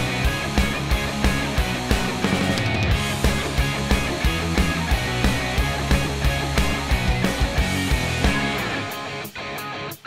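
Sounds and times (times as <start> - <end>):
drum beat: 0.0 - 9.2
rock music with guitar: 0.0 - 10.0.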